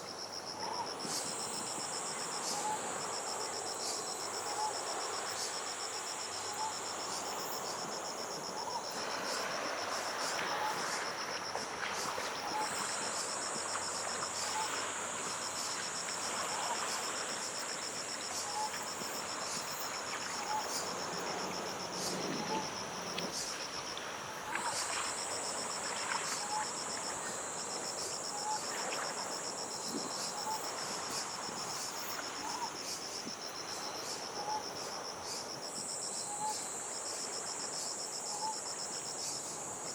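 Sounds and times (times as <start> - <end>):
soft surf wash: 1.0 - 36.0.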